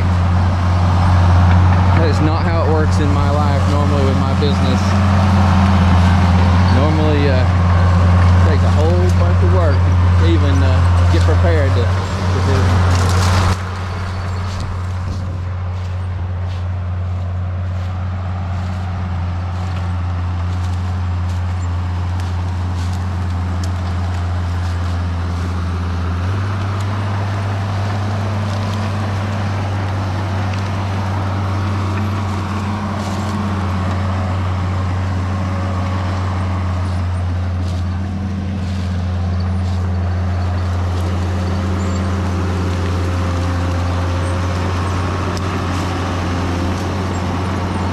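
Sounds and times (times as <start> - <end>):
bulldozer diesel engine droning: 0.0 - 47.9.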